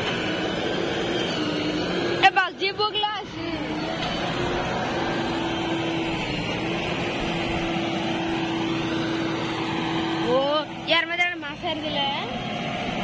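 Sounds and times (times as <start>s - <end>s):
diesel engine running: 0.0s - 13.0s
steady whine: 0.0s - 13.0s.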